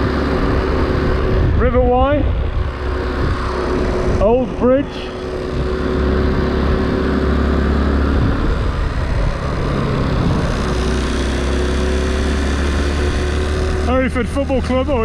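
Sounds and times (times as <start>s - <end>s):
wind rush on microphone: 0.0s - 13.8s
motorcycle engine running: 0.0s - 15.0s.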